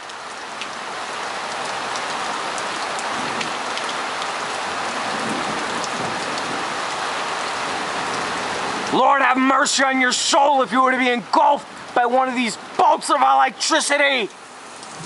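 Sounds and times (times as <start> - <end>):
heavy rain downpour: 0.0 - 15.0
raindrops ticking close by: 0.0 - 15.0.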